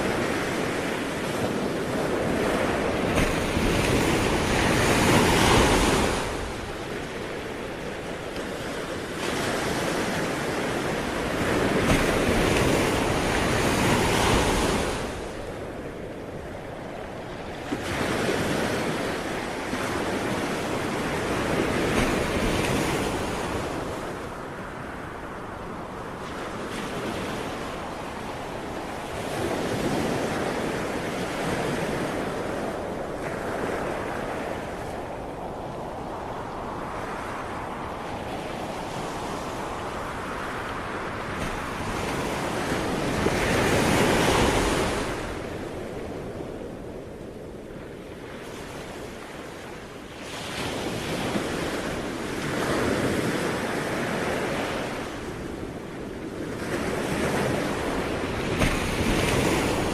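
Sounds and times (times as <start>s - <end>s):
ocean waves breaking: 0.0s - 59.9s
wind: 0.0s - 59.9s.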